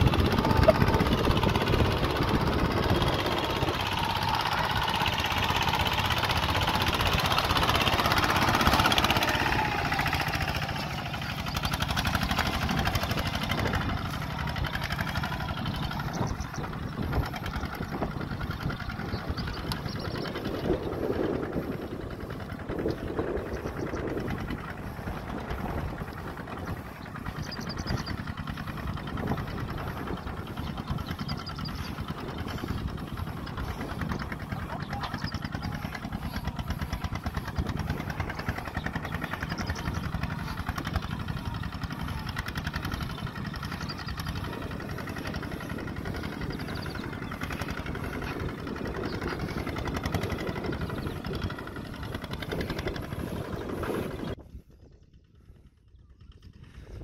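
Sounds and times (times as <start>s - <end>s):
diesel engine knocking: 0.0s - 54.4s.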